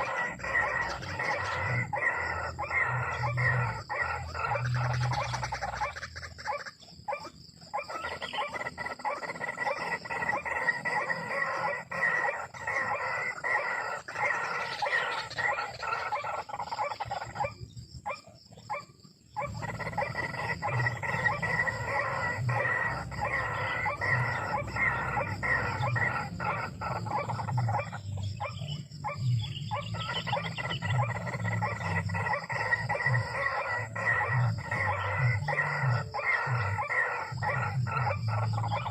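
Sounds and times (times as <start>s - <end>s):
waterhens calling harshly: 0.0s - 17.6s, 19.4s - 38.9s.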